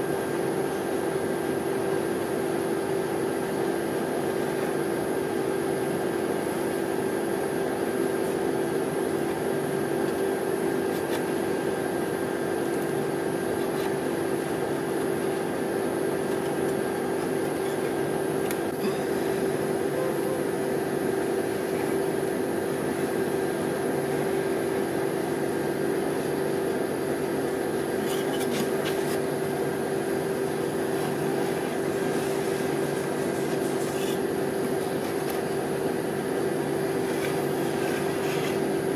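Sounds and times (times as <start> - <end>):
refrigerated machine hum: 0.0 - 38.9.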